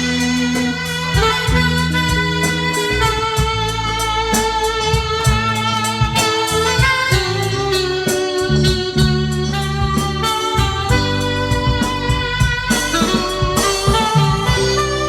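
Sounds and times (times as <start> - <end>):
bass line: 0.0 - 15.0
guitar melody: 0.0 - 15.0
steady beat: 0.0 - 15.0.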